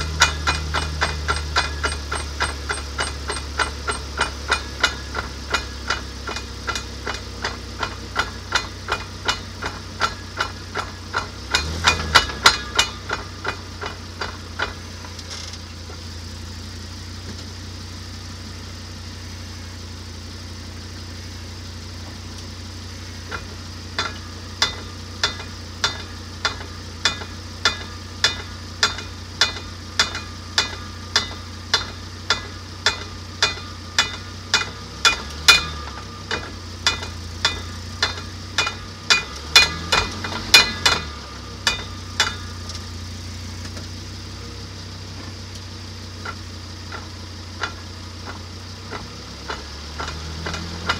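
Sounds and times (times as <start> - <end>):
sharp drivetrain clicks: 0.0 - 16.1, 23.2 - 50.9
vehicle low hum: 0.0 - 50.9.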